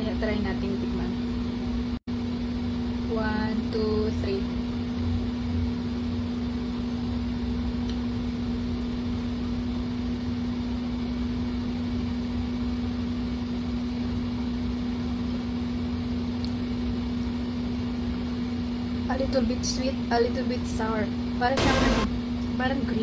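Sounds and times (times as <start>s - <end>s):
range hood fan humming: 0.0s - 23.0s.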